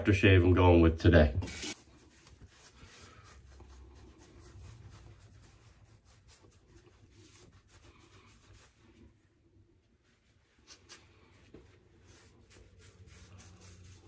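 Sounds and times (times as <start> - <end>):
towel rubbing against face: 1.4 - 14.0.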